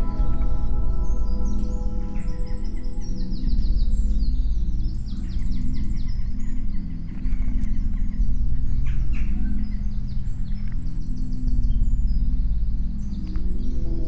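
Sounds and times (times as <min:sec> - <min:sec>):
birds singing: 0:00.0 - 0:14.0
low sustained background music: 0:00.0 - 0:14.0.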